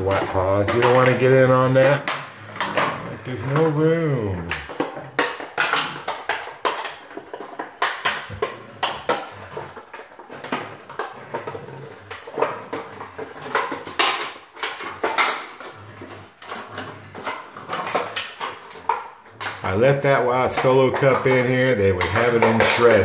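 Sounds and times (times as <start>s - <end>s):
crushed plastic cup crackling: 0.0s - 23.0s.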